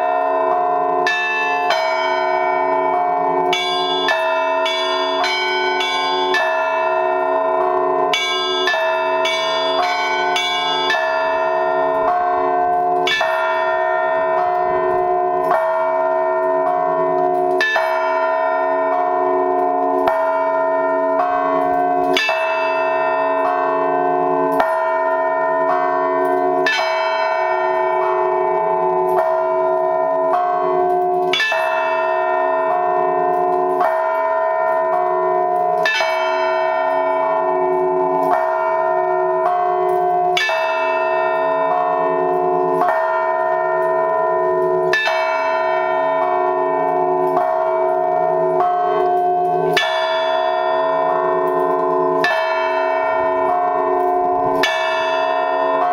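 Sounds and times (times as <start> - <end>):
large church bells: 0.0 - 55.9
smaller church bells: 0.0 - 55.9.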